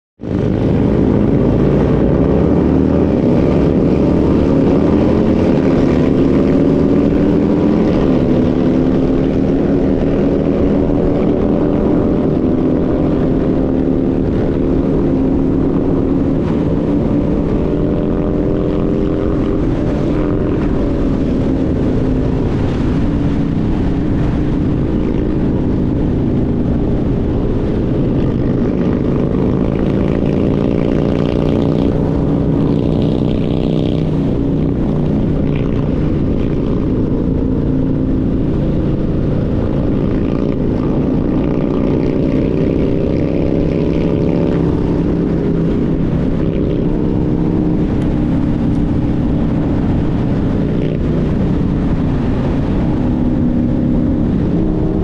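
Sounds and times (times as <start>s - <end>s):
motorcycle engine running: 0.2s - 55.0s
wind noise: 0.2s - 55.0s.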